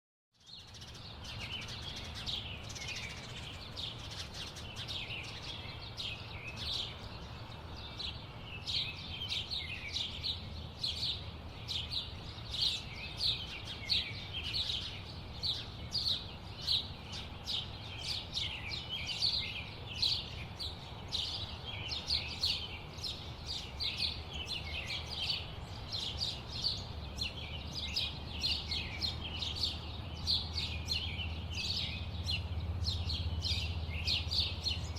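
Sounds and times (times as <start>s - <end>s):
low rumble of city traffic: 0.4s - 34.9s
small birds chirping: 0.4s - 34.9s.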